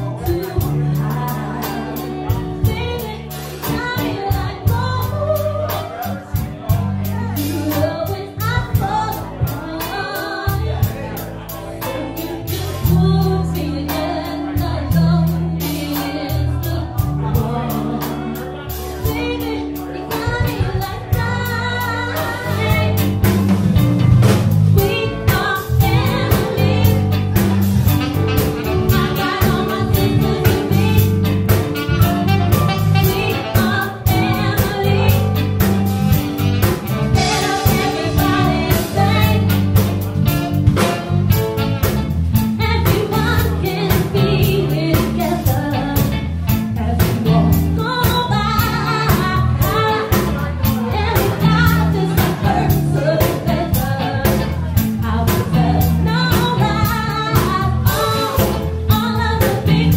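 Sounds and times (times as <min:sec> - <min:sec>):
woman singing backing vocals: 0:00.0 - 0:23.5, 0:24.8 - 0:40.1, 0:42.6 - 0:59.9
drum kit: 0:00.0 - 0:59.9
electric bass: 0:00.0 - 0:59.9
woman singing lead: 0:00.0 - 0:59.9.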